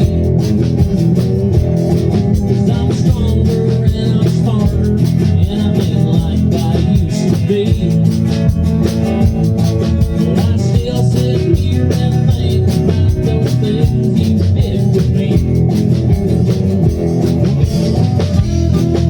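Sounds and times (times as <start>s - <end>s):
live country band playing: 0.0s - 19.0s.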